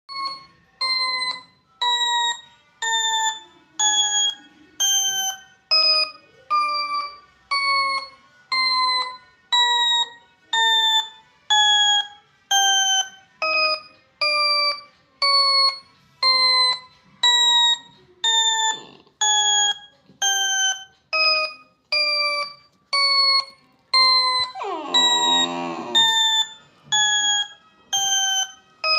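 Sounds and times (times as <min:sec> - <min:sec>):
alarm-like beeping notes: 0:00.1 - 0:28.9.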